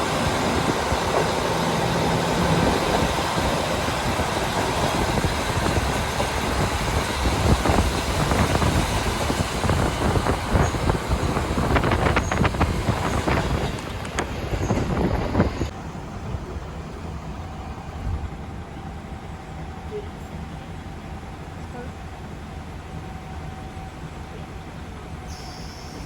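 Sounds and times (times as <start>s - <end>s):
rail clicks: 0.0s - 26.0s
railcar engine and wheels rumbling: 0.0s - 26.0s.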